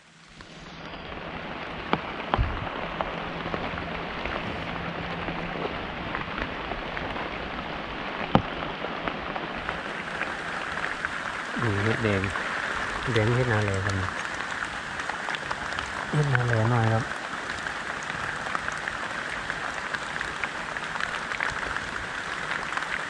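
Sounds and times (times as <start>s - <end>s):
rain falling: 0.0s - 23.0s
raindrop ticks: 0.3s - 23.0s.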